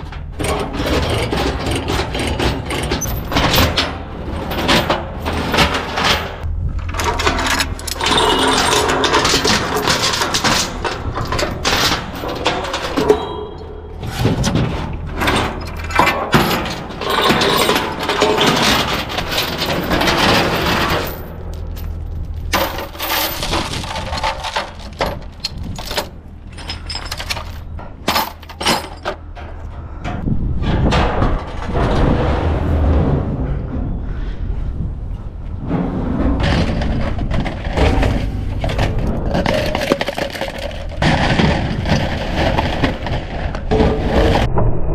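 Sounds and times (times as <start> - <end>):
metal and stone clanking: 0.0 - 44.8.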